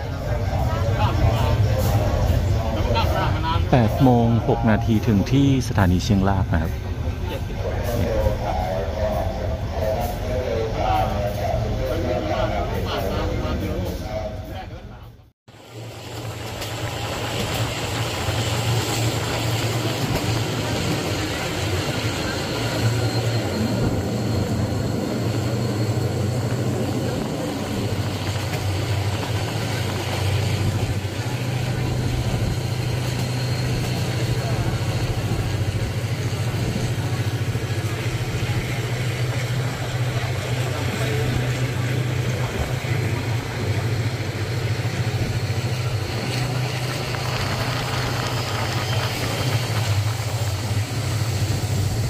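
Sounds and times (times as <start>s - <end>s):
rumble of moving train: 0.0s - 52.0s
train engine hum: 0.0s - 52.0s.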